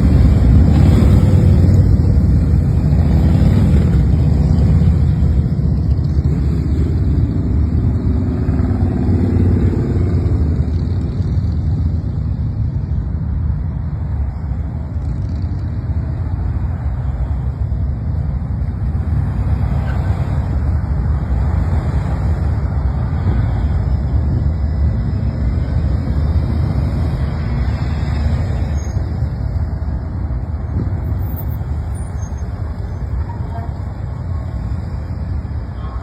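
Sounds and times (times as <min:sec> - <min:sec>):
vehicle rumble: 0:00.0 - 0:36.0.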